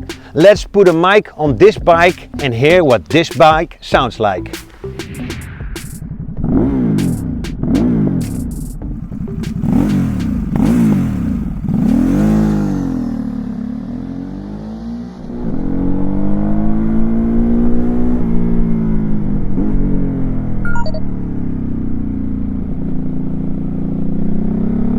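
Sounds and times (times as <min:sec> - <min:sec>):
motorcycle engine revving: 0:04.7 - 0:24.9.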